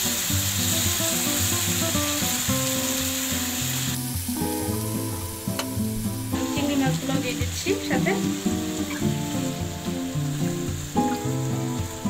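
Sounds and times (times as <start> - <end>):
curry sizzling in a frying pan: 0.0 - 12.0
background music: 1.2 - 12.0.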